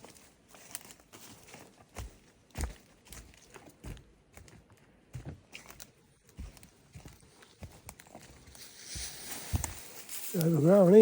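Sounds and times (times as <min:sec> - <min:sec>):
footsteps on wet forest track: 0:00.0 - 0:11.0
rustling and scuffing: 0:00.0 - 0:11.0.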